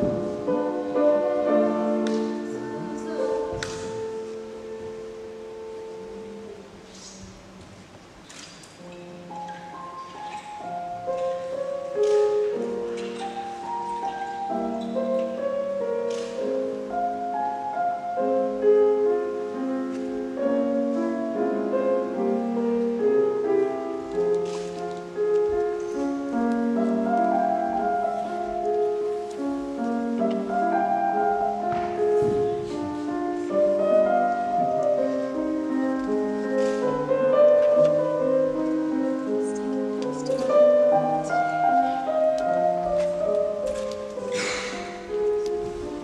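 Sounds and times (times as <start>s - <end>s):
slow piano music: 0.0s - 46.0s.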